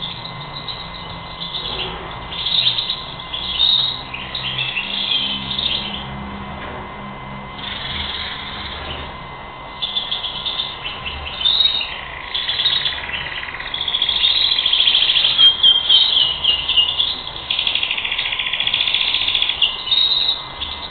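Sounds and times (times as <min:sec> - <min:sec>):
goldfinch twittering song: 0:00.0 - 0:06.2, 0:09.8 - 0:20.9.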